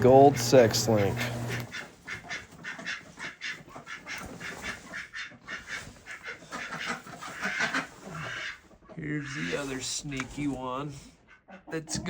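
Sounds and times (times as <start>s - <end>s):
chickens clucking: 0.0s - 10.3s, 10.9s - 12.0s.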